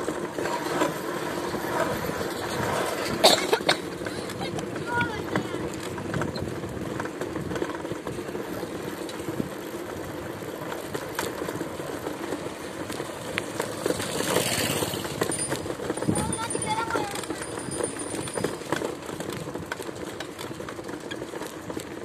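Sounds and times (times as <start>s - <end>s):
vehicle rumble on rough road: 0.0s - 22.0s.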